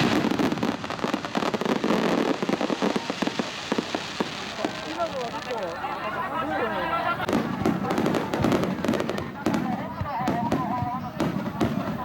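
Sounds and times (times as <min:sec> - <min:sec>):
sharp firework pops: 0:00.0 - 0:05.8, 0:07.2 - 0:12.0
fireworks bursting and crackling: 0:00.0 - 0:12.0
loud firework report: 0:00.0 - 0:12.0.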